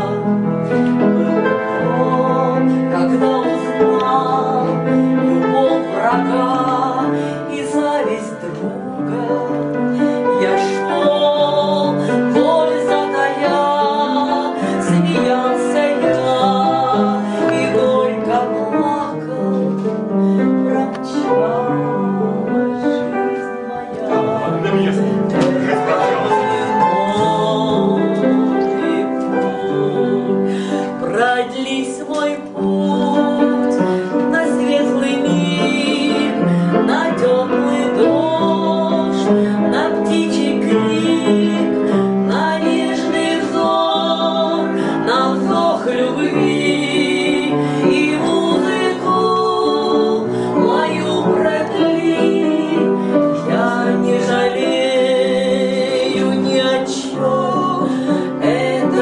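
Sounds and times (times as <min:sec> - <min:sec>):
upright piano playing chords: 0:00.0 - 0:59.0
woman singing with vibrato: 0:01.0 - 0:59.0.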